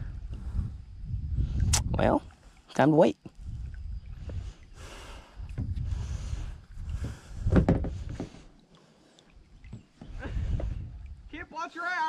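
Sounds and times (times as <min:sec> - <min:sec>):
wind rumbling on microphone: 0:00.0 - 0:08.5, 0:09.4 - 0:11.5.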